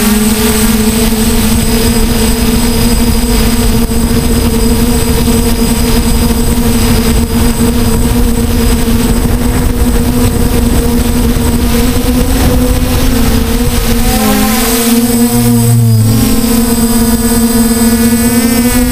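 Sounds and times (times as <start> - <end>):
drone motors whining: 0.0 - 18.9
rushing noise: 0.0 - 18.9.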